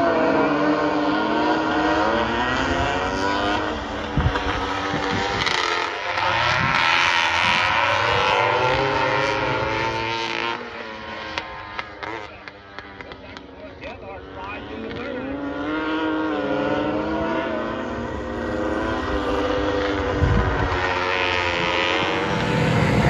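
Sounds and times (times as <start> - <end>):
motorcycles revving and accelerating: 0.0 - 23.0.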